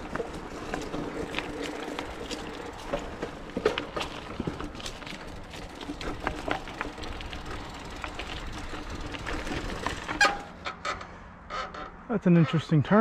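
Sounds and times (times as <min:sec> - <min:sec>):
bike tyres rolling on dirt: 0:00.0 - 0:10.9
bike clicks and rattles: 0:00.0 - 0:13.0.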